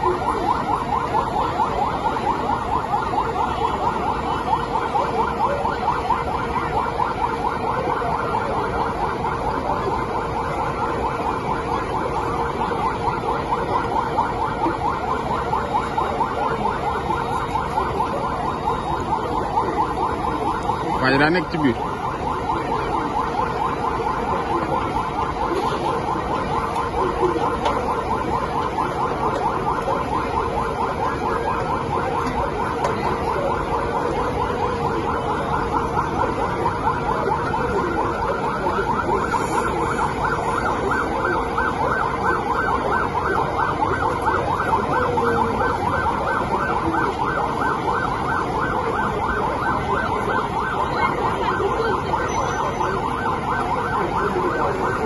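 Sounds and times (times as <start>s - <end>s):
police siren yelping: 0.0s - 55.0s.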